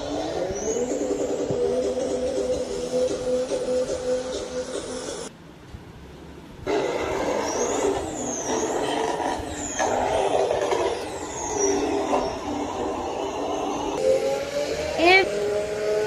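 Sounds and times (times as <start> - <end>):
high whistling glides: 0.0 - 5.3, 6.7 - 16.0
rushing engine and road noise: 0.0 - 16.0.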